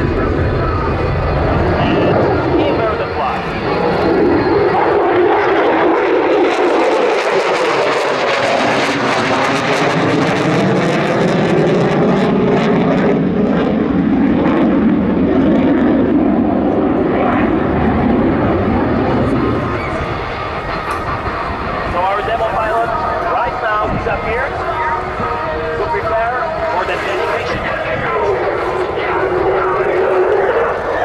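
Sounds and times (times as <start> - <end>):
fighter jet engine roaring: 0.0 - 31.0.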